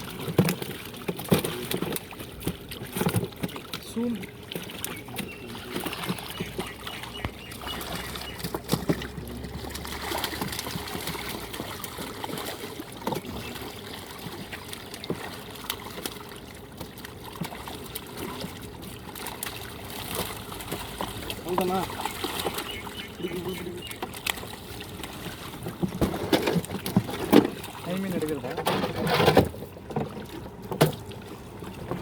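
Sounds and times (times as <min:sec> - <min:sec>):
river water trickling and splashing: 0:00.0 - 0:32.0.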